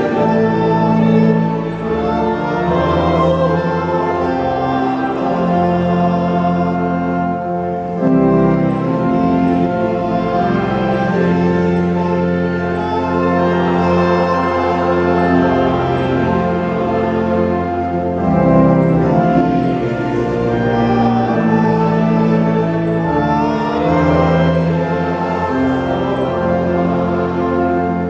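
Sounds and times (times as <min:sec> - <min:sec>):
organ playing slow chords: 0:00.0 - 0:28.0.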